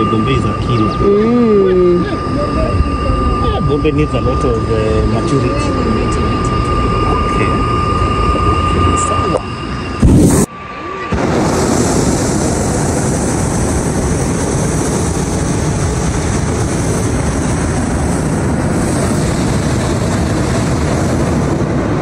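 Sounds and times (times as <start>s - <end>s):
propane burner roaring: 0.0s - 22.0s.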